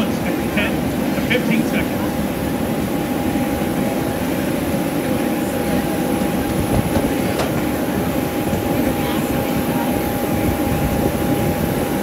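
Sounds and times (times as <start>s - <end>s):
jet rumble passing overhead: 0.0s - 12.0s.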